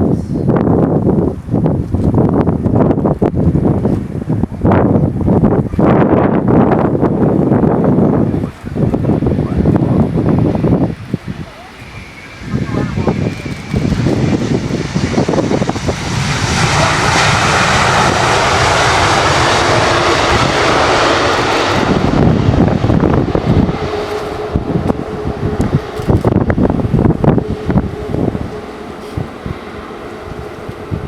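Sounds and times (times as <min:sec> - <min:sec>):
wind buffeting microphone: 0:00.0 - 0:31.0
jet engines running: 0:00.8 - 0:31.0.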